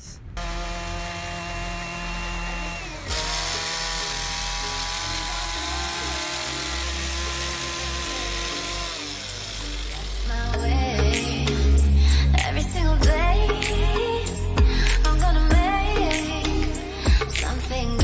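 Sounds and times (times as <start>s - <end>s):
low bass line: 0.0s - 18.0s.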